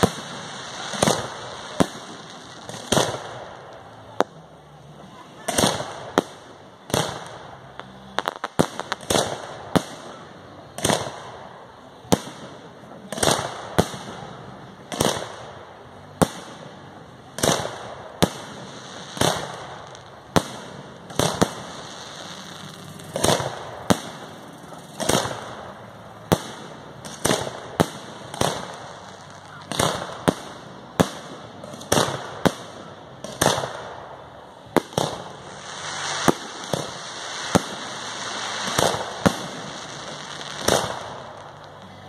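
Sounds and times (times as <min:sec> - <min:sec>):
fireworks bangs with echo: 0:00.0 - 0:42.0.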